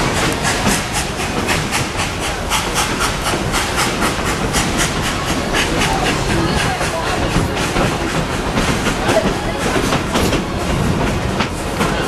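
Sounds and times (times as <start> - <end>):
steam locomotive exhaust chuffs: 0.0 - 12.0
train cars rumbling on track: 0.0 - 12.0.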